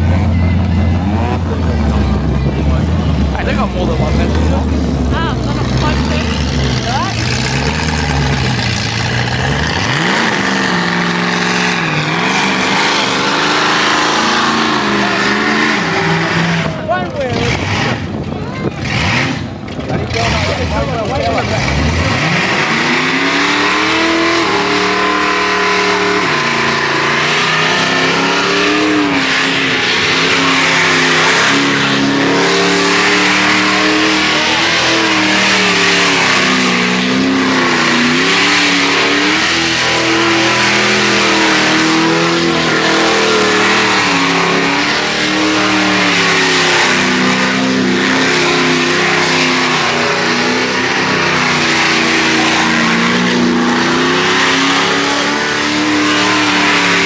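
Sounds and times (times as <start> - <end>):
car engine revving: 0.0 - 57.0
tyres screeching: 0.0 - 57.0.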